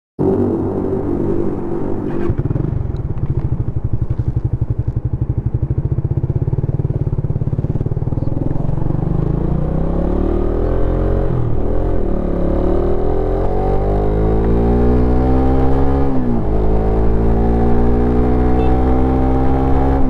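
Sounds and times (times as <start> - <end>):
motorcycle engine revving: 0.2 - 20.0.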